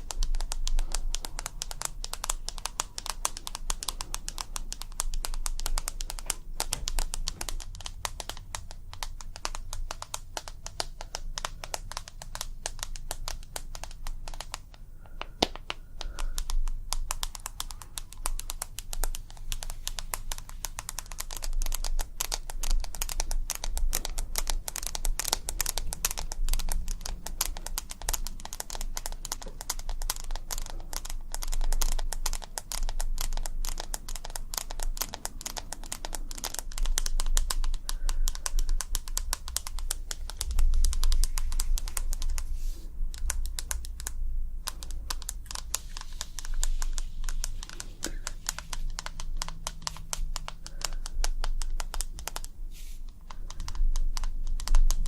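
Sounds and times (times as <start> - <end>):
low steady rumble: 0.0 - 55.0
rapid crisp tapping: 0.0 - 55.0.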